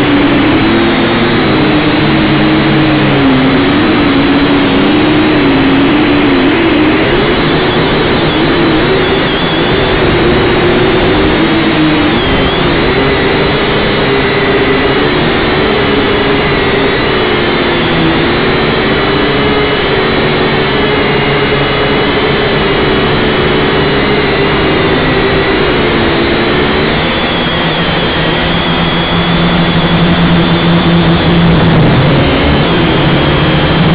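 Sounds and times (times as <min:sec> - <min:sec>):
drone motors and propellers whining: 0:00.0 - 0:33.9.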